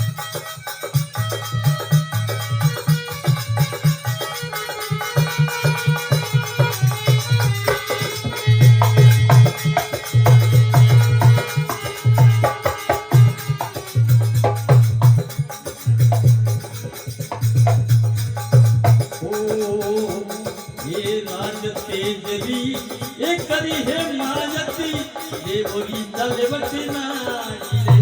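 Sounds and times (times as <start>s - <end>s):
drum and percussion rhythm: 0.0s - 28.0s.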